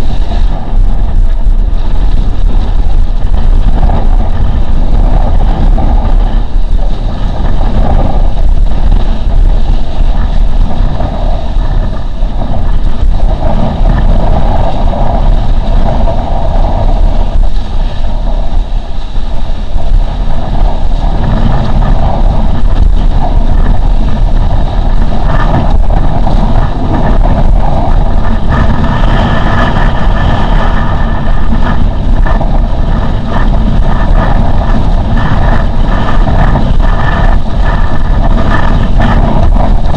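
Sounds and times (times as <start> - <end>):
faint steady whine: 0.0 - 39.9
water rushing and slapping: 0.0 - 39.9
wind buffeting microphone: 0.0 - 39.9.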